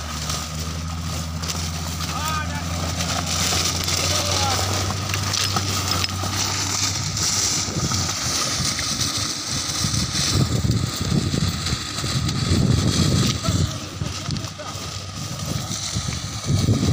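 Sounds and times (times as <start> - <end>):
car engine running: 0.0 - 16.9
tyres on loose gravel: 0.0 - 16.9
wind buffeting microphone: 2.4 - 16.9.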